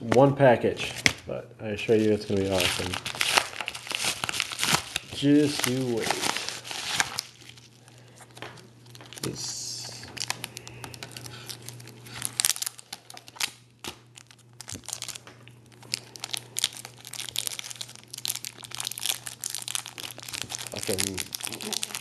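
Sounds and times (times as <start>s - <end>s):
plastic sleeves crinkling and clicking: 2.0s - 22.0s.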